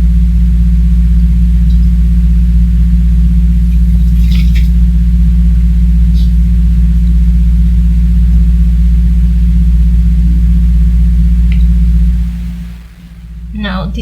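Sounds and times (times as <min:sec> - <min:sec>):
loud low hum: 0:00.0 - 0:14.0.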